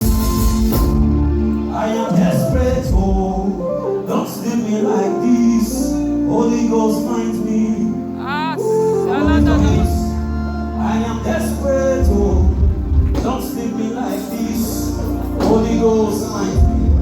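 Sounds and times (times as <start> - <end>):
slow worship music: 0.0 - 17.0
person singing: 1.6 - 17.0.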